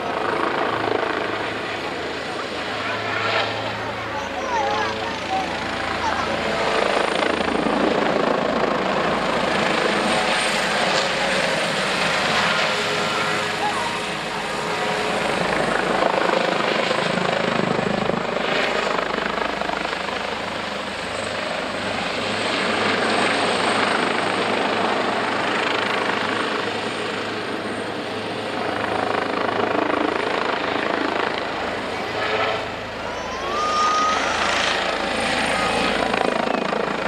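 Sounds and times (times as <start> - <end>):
helicopter rotor and turbine: 0.0 - 37.0.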